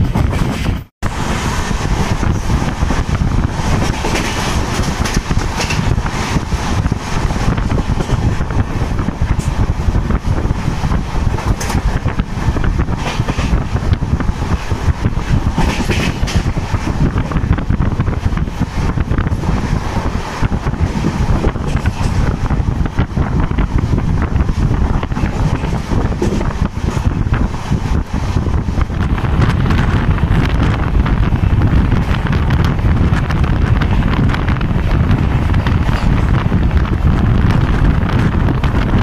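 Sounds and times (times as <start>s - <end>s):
train coach rumbling on track: 0.0s - 39.0s
wind buffeting microphone: 0.0s - 39.0s.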